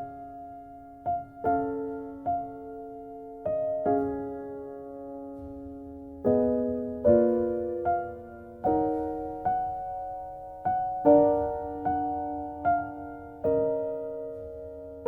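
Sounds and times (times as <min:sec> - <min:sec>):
gentle slow piano chords: 0:00.0 - 0:15.0.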